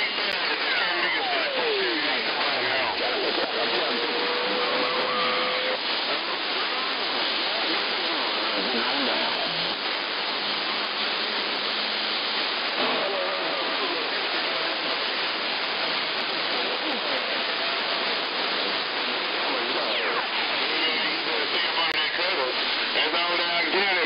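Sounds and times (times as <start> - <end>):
faint garbled radio voices: 0.0 - 24.0
radio static hiss: 0.0 - 24.0.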